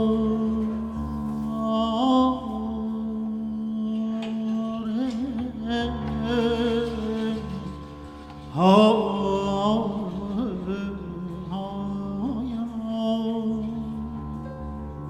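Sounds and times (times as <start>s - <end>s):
steady musical drone: 0.0s - 15.0s.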